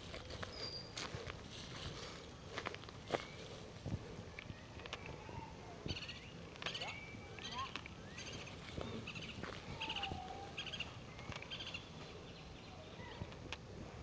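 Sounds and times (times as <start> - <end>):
birds chattering: 0.0 - 14.0.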